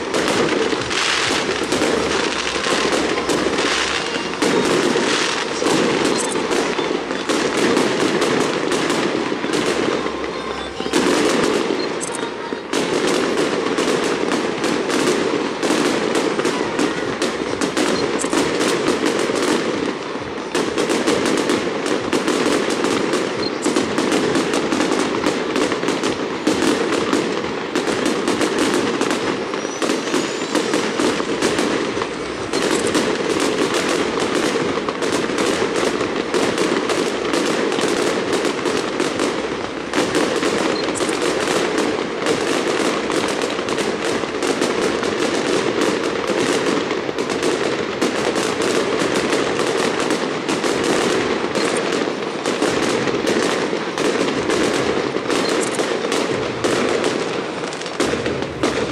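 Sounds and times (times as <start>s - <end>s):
fireworks crackling bangs: 0.0s - 58.9s.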